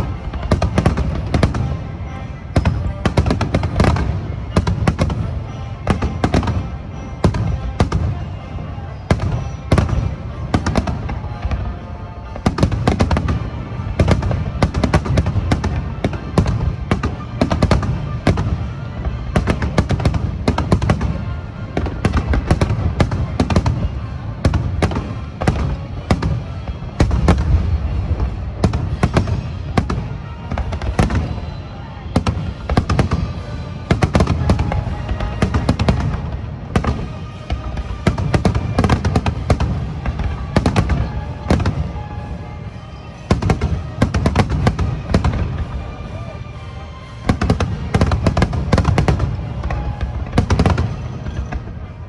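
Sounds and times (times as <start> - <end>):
fireworks bursting: 0.0 - 52.0
music playing: 0.0 - 52.0.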